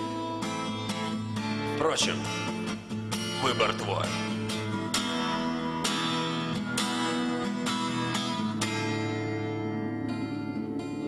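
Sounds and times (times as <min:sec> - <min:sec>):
guitar strumming: 0:00.0 - 0:11.0.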